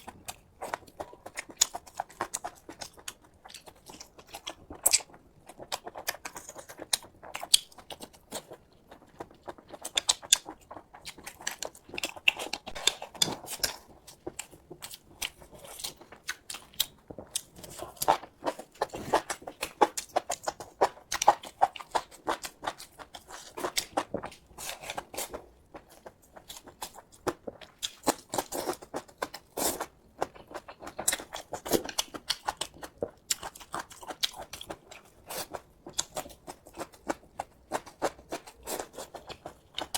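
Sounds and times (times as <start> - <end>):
chewing and lip smacks: 0.0 - 39.9.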